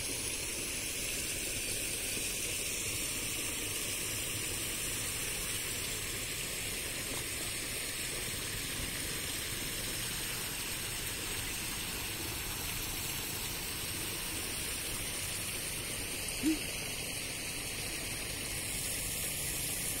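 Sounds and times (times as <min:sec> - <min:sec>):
water rushing over dam: 0:00.1 - 0:20.0.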